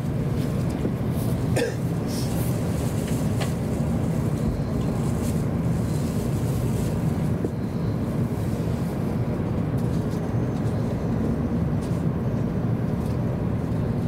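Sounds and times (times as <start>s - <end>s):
train rumbling inside cabin: 0.0s - 14.0s.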